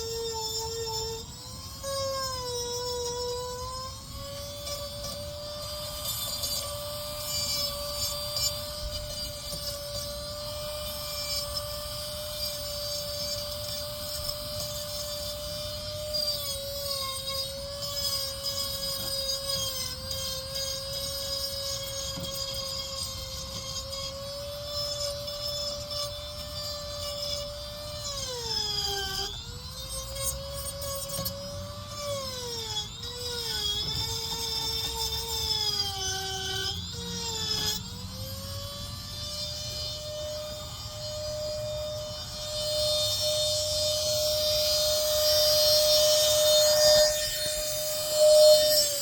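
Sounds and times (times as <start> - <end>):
power carving tool cutting wood: 0.0 - 49.0.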